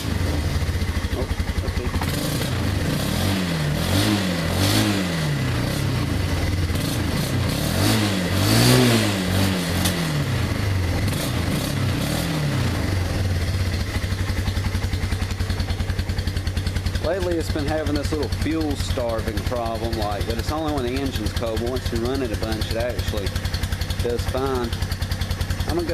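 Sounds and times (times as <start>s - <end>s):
atv engine revving: 0.0s - 25.9s.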